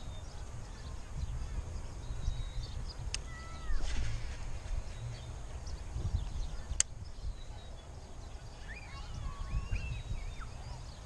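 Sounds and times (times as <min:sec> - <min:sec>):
birds whistling: 0:00.0 - 0:11.0
wind rumble on microphone: 0:00.0 - 0:11.0.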